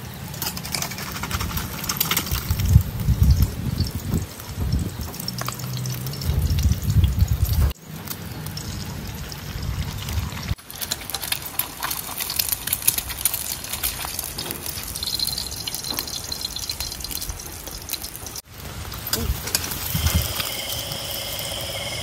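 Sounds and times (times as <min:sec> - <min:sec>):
eggs sizzling in hot oil: 0:00.0 - 0:22.0.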